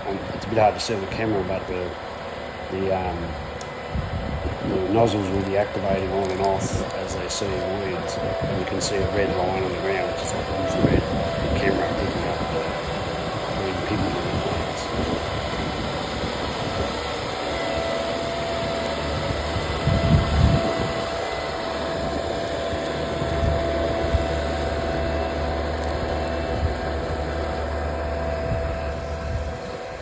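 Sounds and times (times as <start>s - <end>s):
thin steady whine: 0.0s - 30.0s
tractor engine running: 0.0s - 30.0s.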